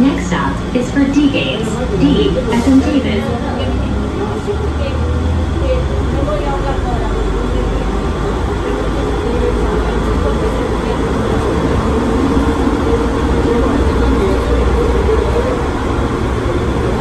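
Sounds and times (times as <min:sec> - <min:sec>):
train car rumbling in tunnel: 0:00.0 - 0:17.0.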